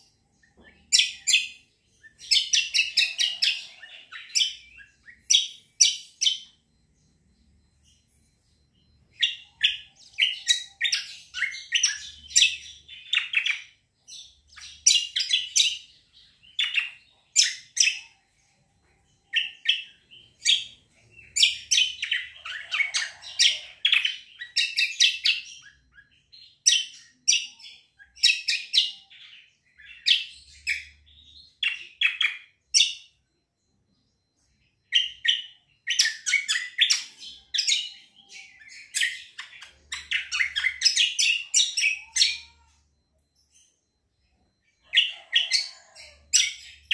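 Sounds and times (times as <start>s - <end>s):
songbird chirping: 0.0s - 46.9s.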